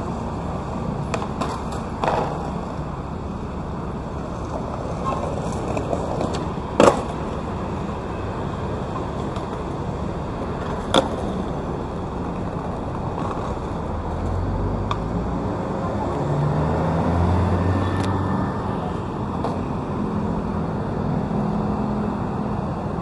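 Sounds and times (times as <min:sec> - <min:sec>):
heavy engine rumble: 0:00.0 - 0:23.0
hum of passing traffic: 0:00.0 - 0:23.0.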